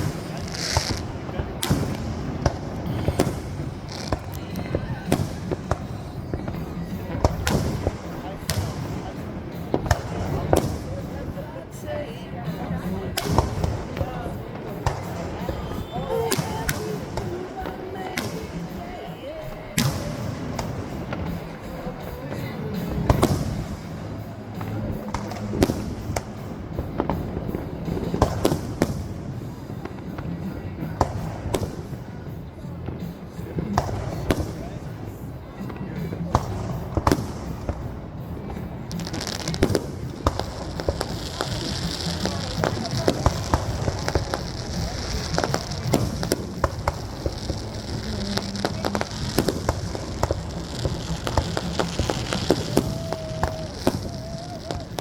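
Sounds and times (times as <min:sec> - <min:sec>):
aerial fireworks bursting: 0:00.0 - 0:55.0
music: 0:00.0 - 0:55.0.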